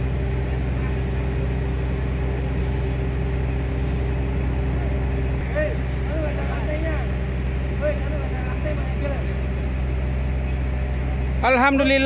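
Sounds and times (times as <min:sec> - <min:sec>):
ferry engine machinery drone: 0:00.0 - 0:12.0.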